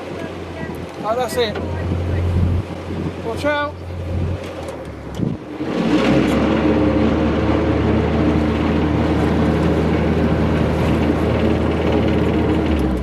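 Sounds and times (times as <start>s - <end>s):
diesel boat engine revving hard: 1.1s - 13.0s.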